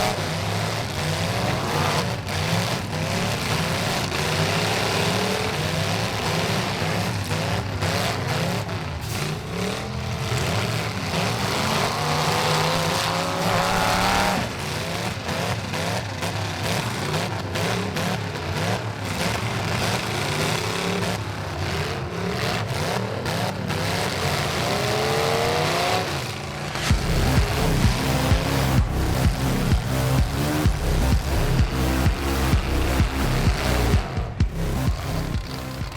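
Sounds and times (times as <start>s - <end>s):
racing truck engines accelerating: 0.0s - 35.9s.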